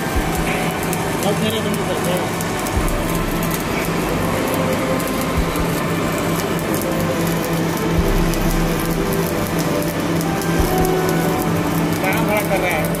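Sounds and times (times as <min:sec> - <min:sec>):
steady low hum: 0:00.0 - 0:13.0
welding arc crackling and sizzling: 0:00.0 - 0:13.0.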